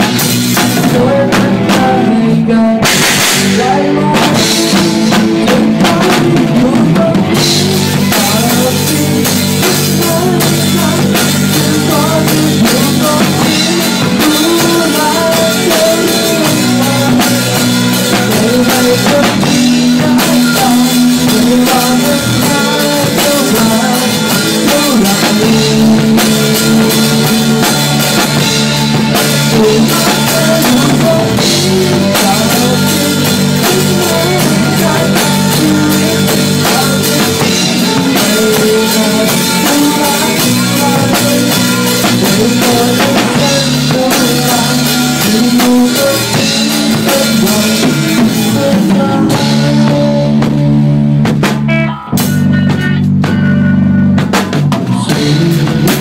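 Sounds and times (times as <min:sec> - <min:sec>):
drum kit with cymbals: 0:00.0 - 0:56.0
electric guitar chords: 0:00.0 - 0:56.0
rock band playing live: 0:00.0 - 0:56.0.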